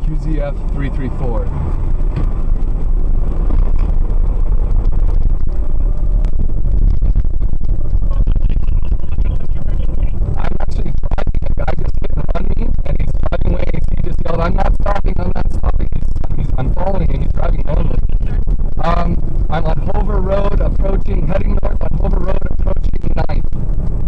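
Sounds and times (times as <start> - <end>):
pickup engine and road rumble: 0.0 - 24.0.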